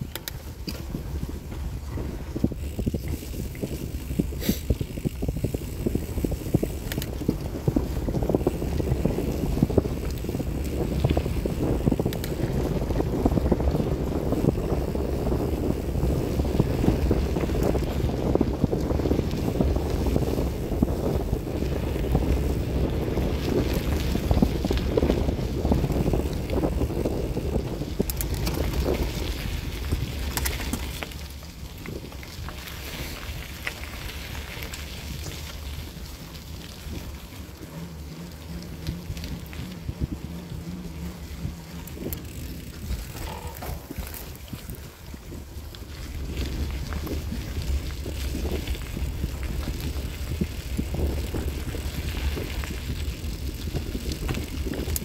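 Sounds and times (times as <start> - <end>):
bicycle tyres rolling on gravel: 0.0 - 55.0
wind buffeting microphone: 0.0 - 55.0.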